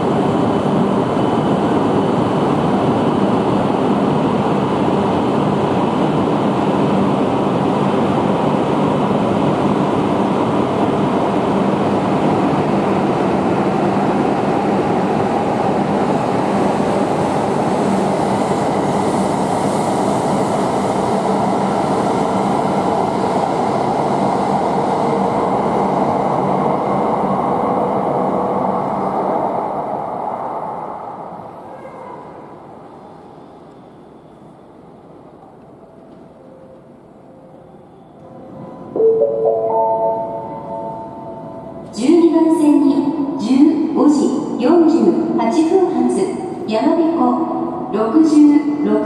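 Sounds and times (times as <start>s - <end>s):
train rumbling past: 0.0s - 49.0s.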